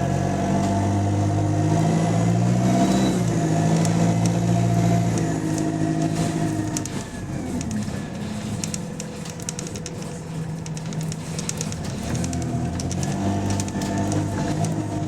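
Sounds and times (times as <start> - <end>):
bus diesel engine running: 0.0 - 15.0
leaking exhaust ticking and puffing: 0.9 - 15.0.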